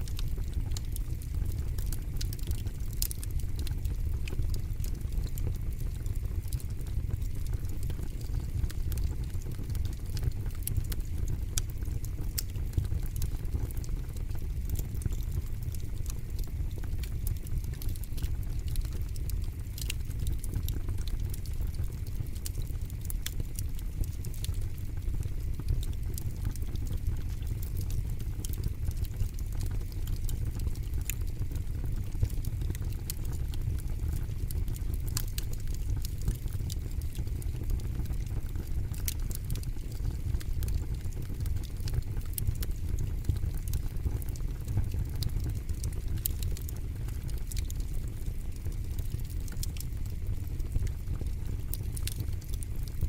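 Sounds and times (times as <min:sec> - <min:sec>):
fire crackling and popping: 0:00.0 - 0:53.0
fire low rumble: 0:00.0 - 0:53.0.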